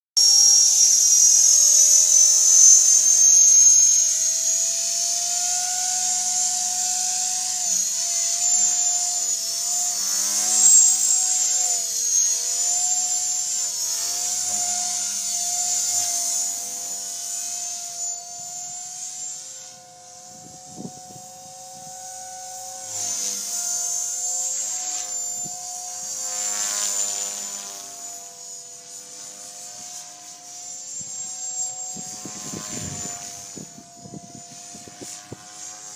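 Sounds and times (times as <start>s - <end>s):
rc helicopter rotor whine: 0.2s - 35.9s.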